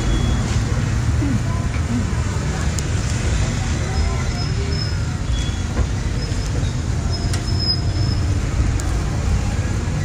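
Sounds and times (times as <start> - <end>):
market background noise: 0.0 - 10.0
street traffic rumble: 0.0 - 10.0.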